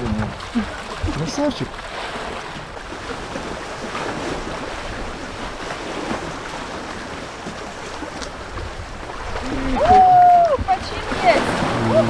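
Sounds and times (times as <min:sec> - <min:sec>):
steady wind: 0:00.0 - 0:12.0
water lapping against wall: 0:00.0 - 0:12.0.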